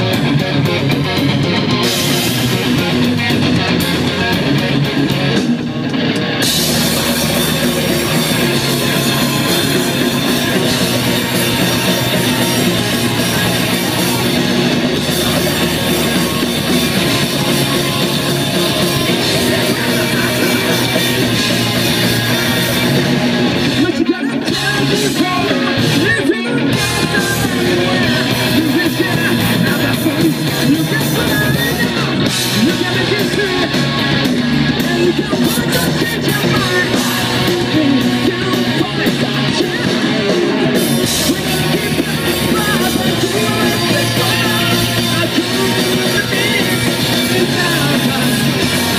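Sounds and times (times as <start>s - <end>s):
distorted electric guitars: 0.0s - 48.9s
drum kit: 0.0s - 48.9s
live rock band playing loud: 0.0s - 48.9s
person singing: 6.4s - 48.9s.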